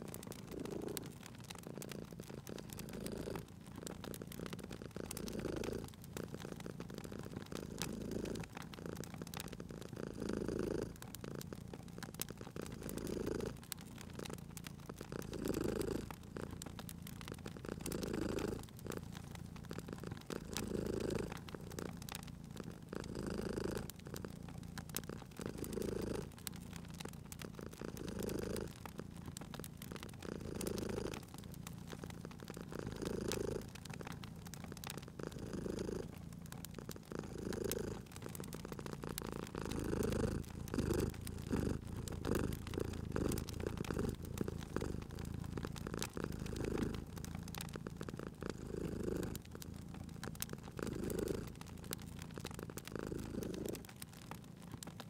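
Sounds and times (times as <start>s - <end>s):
cat purring: 0.0s - 55.0s
wood fire crackling: 0.0s - 55.0s.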